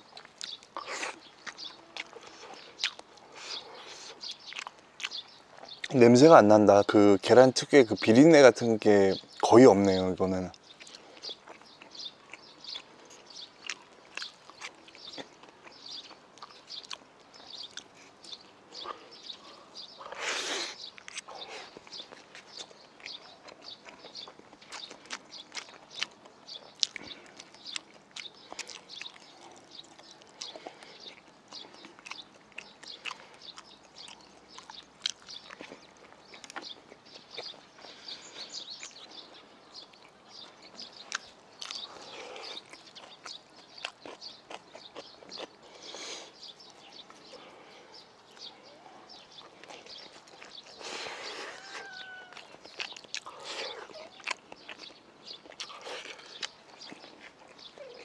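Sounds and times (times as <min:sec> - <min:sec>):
close chewing with mouth clicks: 0:00.0 - 0:06.0, 0:10.3 - 0:58.0.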